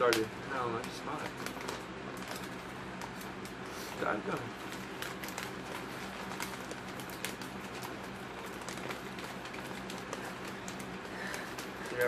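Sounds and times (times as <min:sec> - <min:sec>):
snack bag crackling: 0:00.0 - 0:12.0
steady low hum: 0:00.0 - 0:12.0.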